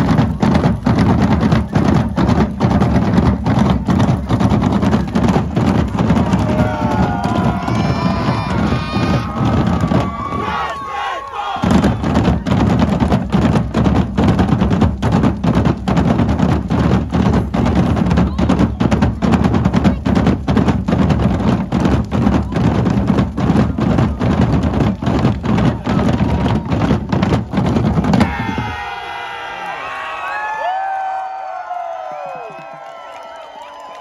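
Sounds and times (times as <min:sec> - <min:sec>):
drums beating fast: 0:00.0 - 0:30.0.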